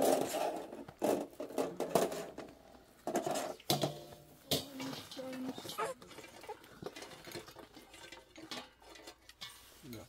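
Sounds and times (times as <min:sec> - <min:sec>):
food clattering on metal tray: 0:00.0 - 0:10.0.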